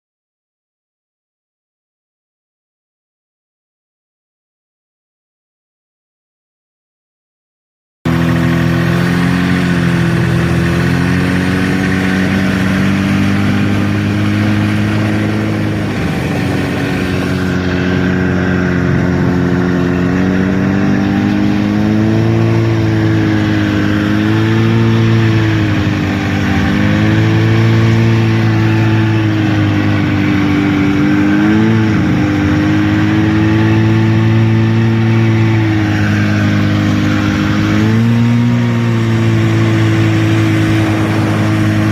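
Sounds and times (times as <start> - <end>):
snowmobile engine running: 8.1 - 41.9.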